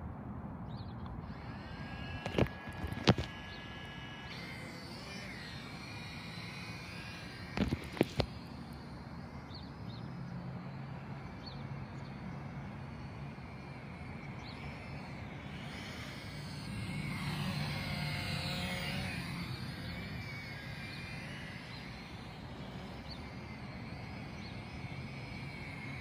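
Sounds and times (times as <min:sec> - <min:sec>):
drone motors whirring: 0:01.0 - 0:26.0.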